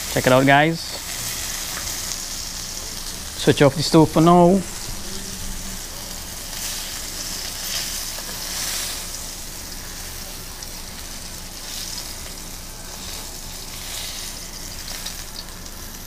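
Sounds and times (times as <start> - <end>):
fish sizzling in a frying pan: 0.0 - 3.6, 4.4 - 16.0.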